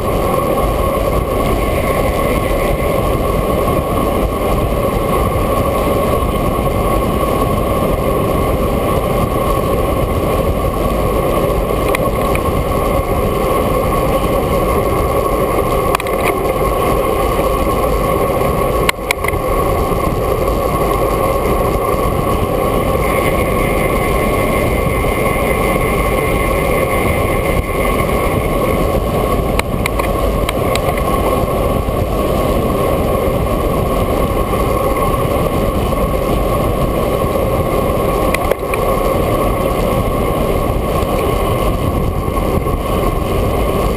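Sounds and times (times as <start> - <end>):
wind rushing on microphone: 0.0 - 43.9.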